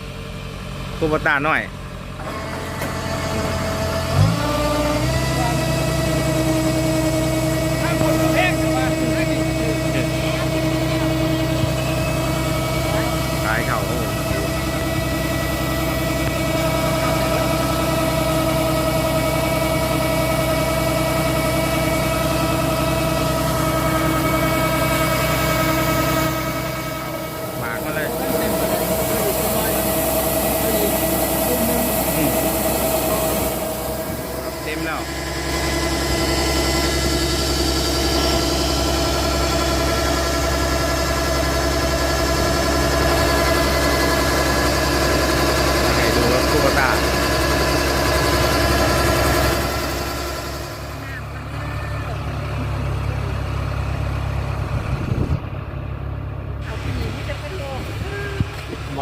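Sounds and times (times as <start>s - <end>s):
combine harvester engine running: 0.0s - 59.0s
steady mechanical whine: 0.0s - 59.0s.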